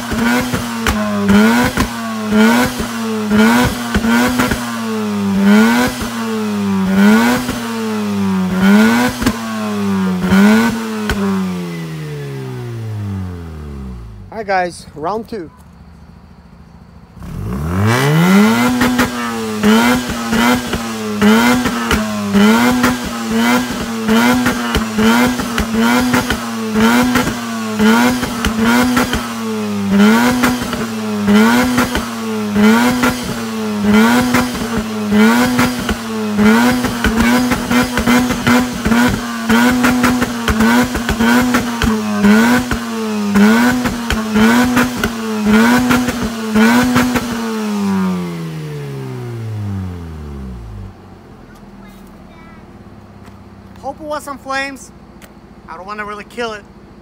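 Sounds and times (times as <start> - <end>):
exhaust pops crackling: 0.0 - 11.5, 13.4 - 47.9, 50.4 - 56.8
rotary engine revving: 0.0 - 14.5, 15.1 - 53.5.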